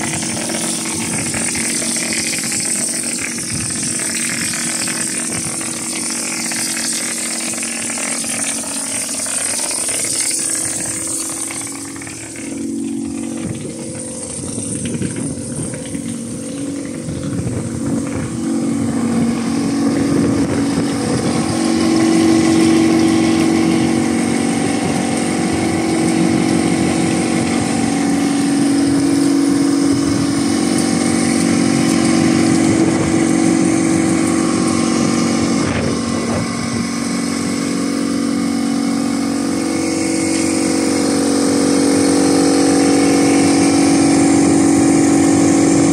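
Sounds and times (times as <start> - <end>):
plaster spraying machine humming: 0.0 - 45.9.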